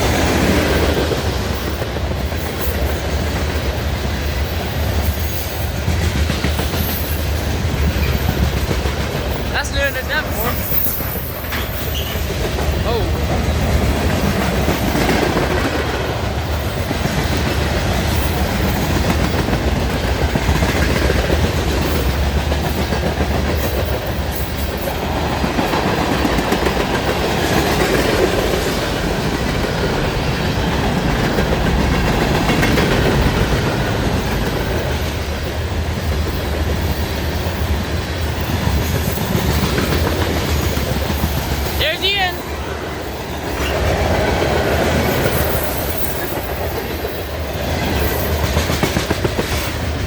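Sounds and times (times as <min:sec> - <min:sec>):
train wheels on rails: 0:00.0 - 0:50.0.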